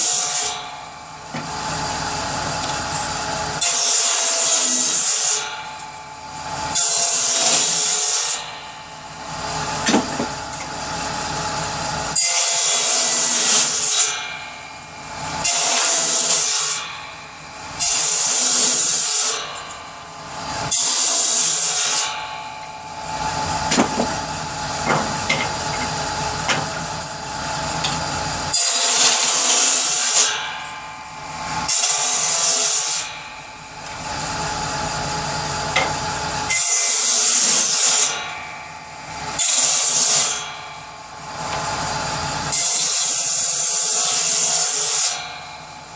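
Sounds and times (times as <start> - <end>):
power saw running: 0.0 - 45.9
saw cutting wood: 0.0 - 45.9.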